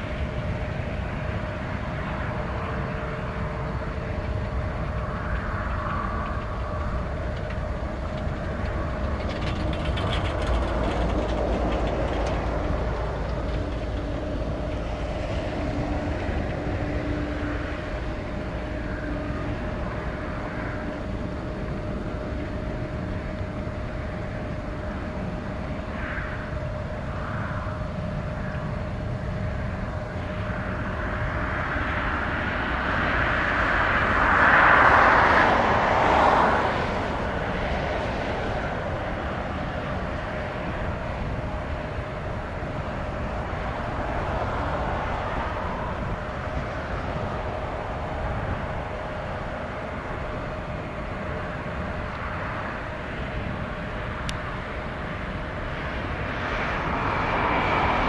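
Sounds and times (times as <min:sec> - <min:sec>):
jet engines humming: 0:00.0 - 0:58.0
wind rumbling on microphone: 0:00.0 - 0:58.0.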